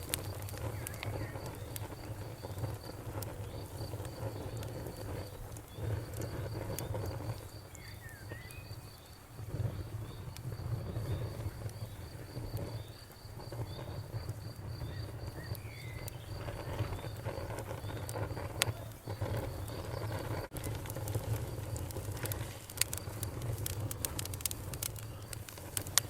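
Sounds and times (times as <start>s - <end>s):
bonfire crackling and popping: 0.0s - 26.0s
crickets chirping: 0.0s - 26.0s
low fluctuating rumble: 0.0s - 26.0s.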